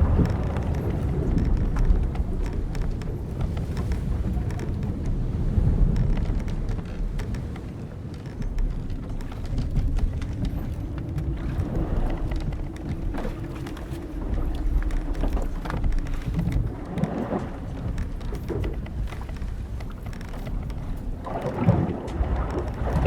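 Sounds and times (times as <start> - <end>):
ship timbers creaking: 0.0 - 23.0
wind and waves rumbling: 0.0 - 23.0.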